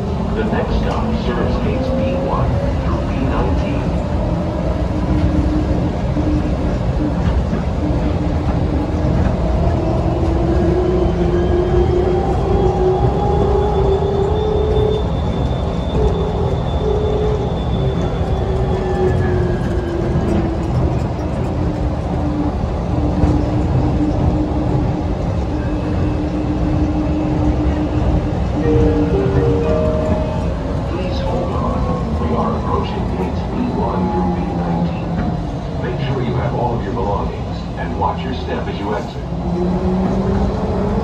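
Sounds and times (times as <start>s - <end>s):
train running gear rumble: 0.0s - 41.0s.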